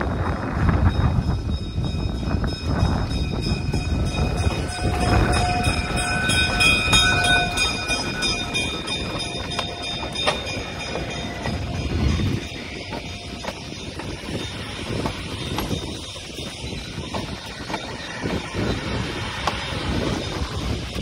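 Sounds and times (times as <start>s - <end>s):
diesel locomotive passing: 0.0s - 21.0s
wheels clicking over rails: 2.0s - 21.0s.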